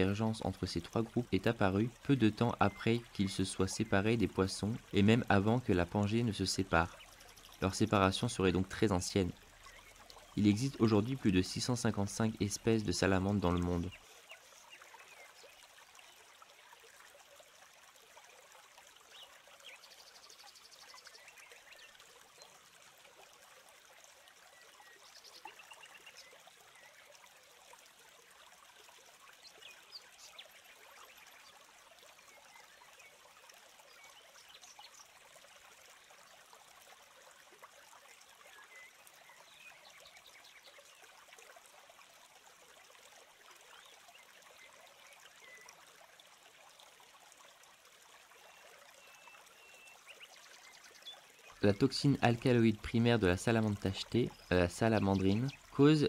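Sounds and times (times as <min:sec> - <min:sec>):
faint trickling stream: 0:00.0 - 0:56.0.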